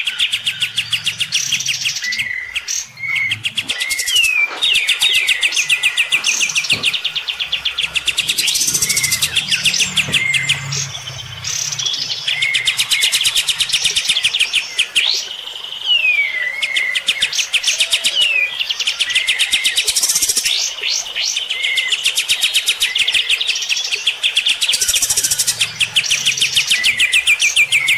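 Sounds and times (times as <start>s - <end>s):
birds singing fast trills: 0.0s - 27.9s.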